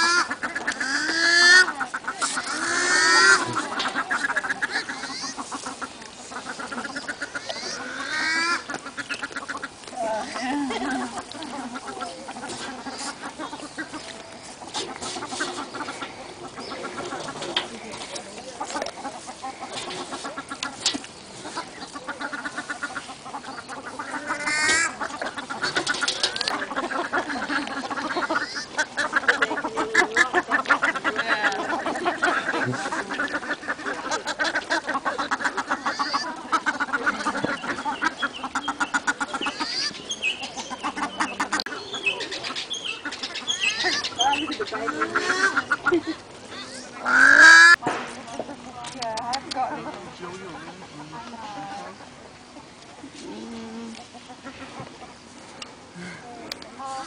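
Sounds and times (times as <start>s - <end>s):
ducks and chickens calling: 0.0s - 57.0s.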